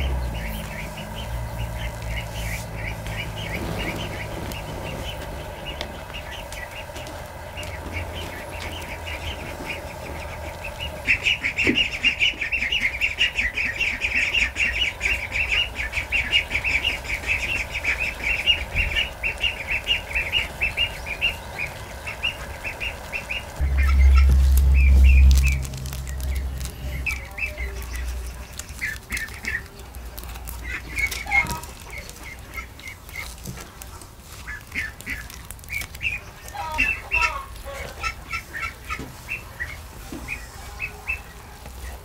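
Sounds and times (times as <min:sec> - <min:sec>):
low steady hum: 0:00.0 - 0:40.5
birds chirping: 0:00.0 - 0:42.0.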